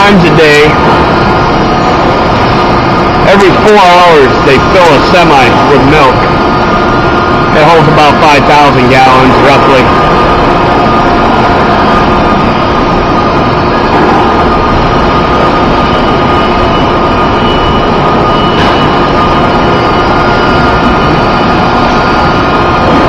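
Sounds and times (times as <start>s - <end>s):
loud machinery drone: 0.0s - 23.0s.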